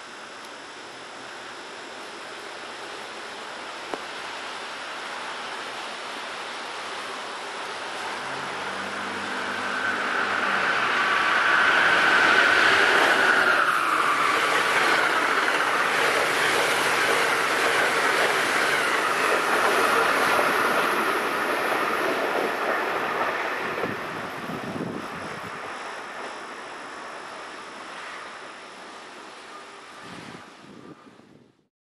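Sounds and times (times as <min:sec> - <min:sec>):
electric locomotive whine: 0:00.0 - 0:31.5.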